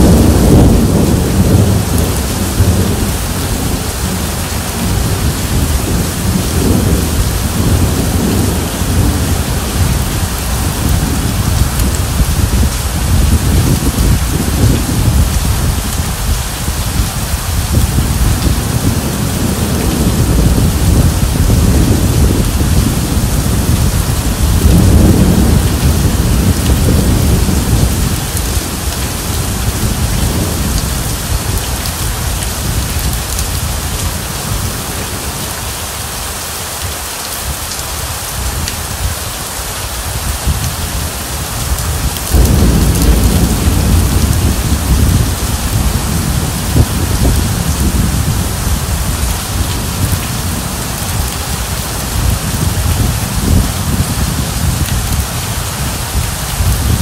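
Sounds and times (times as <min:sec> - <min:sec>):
rolling thunder rumble: 0:00.0 - 0:35.6, 0:40.1 - 0:57.0
steady rain pouring: 0:00.0 - 0:57.0.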